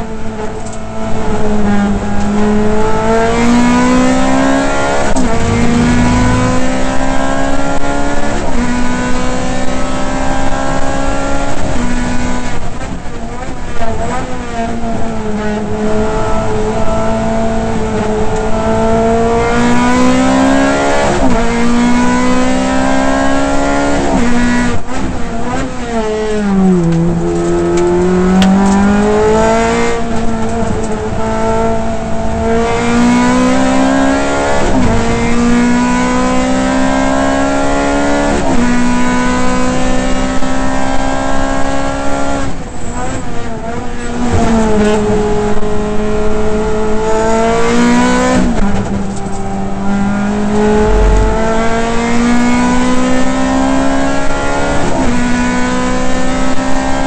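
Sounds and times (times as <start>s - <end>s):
race car engine accelerating: 0.1s - 13.0s, 13.6s - 57.0s.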